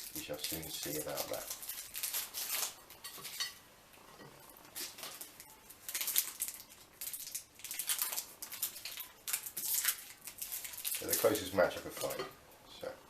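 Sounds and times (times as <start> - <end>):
wrappers rustling and crinkling: 0.0 - 3.4, 4.7 - 12.2.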